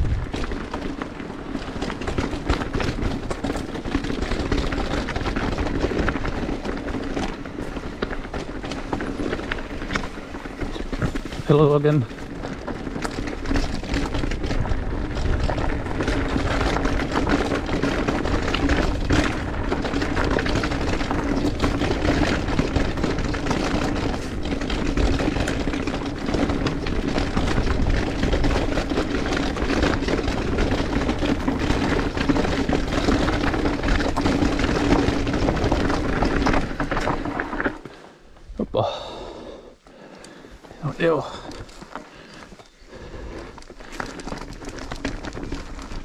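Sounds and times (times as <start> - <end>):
wind noise: 0.0 - 37.8
bike frame and chain clattering: 0.0 - 38.2, 40.3 - 46.0
bike tyres rolling and skidding: 0.0 - 46.0.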